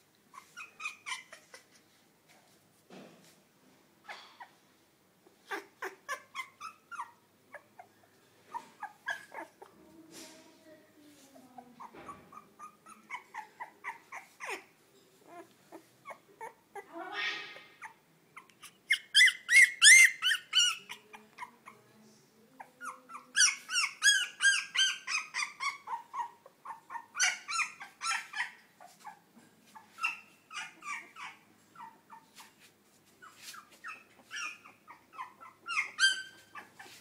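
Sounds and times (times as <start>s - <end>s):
puppy whimpering and squeaking: 0.3s - 1.8s, 5.4s - 7.9s, 8.5s - 9.8s, 11.4s - 21.8s, 22.5s - 37.0s.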